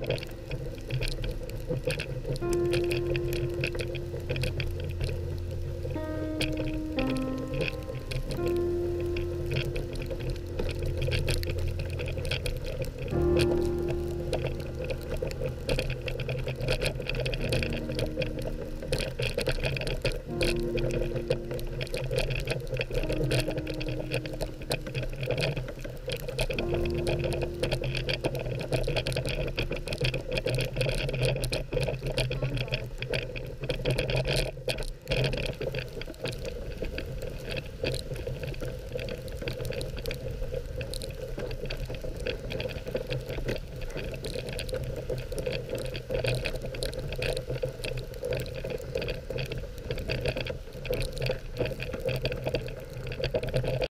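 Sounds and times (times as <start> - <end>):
sled rattling and clicking: 0.0 - 53.9.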